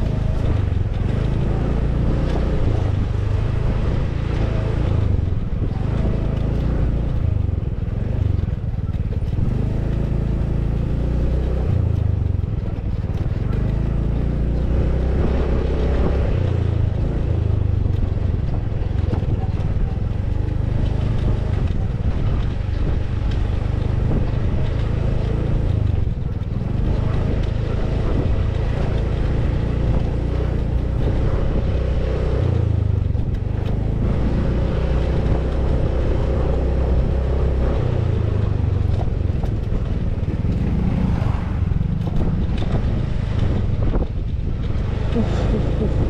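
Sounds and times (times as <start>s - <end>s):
low rumble of wind and road: 0.0s - 46.0s
small motorcycle engine running: 0.0s - 46.0s.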